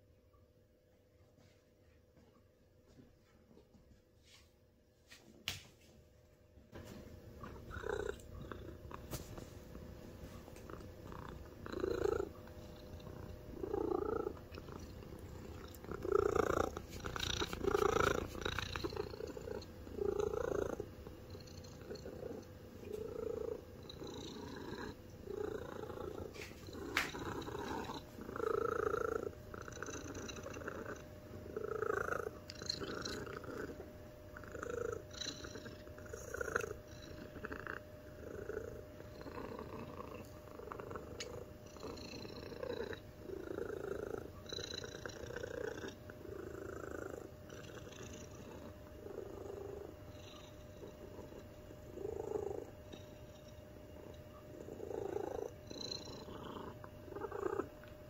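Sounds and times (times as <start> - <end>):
cat purring: 6.7 - 58.0.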